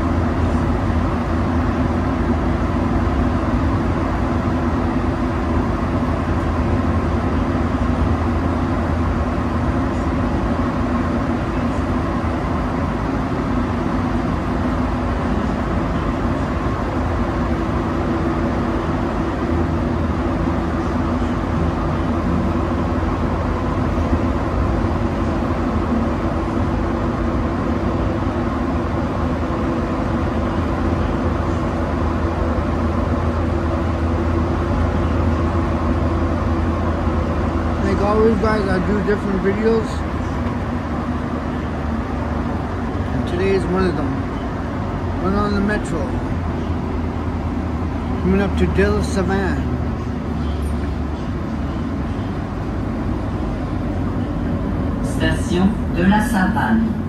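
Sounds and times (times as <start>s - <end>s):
low steady hum: 0.0s - 57.0s
metro train rumble: 0.0s - 57.0s.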